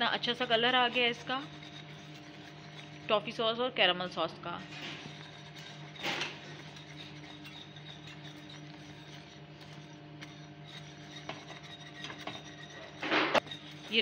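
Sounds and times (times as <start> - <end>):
caramel bubbling in a pan: 0.0 - 3.4, 4.2 - 14.0
spatula scraping a pan: 0.0 - 14.0
steady low hum: 0.0 - 14.0.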